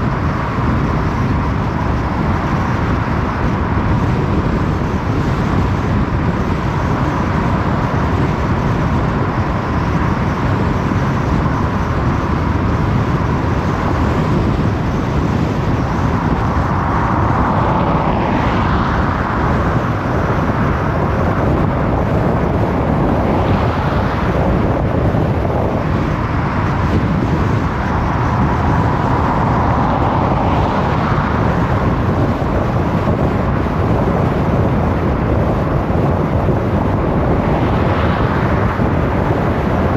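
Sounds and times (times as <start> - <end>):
car driving on a road: 0.0 - 39.9.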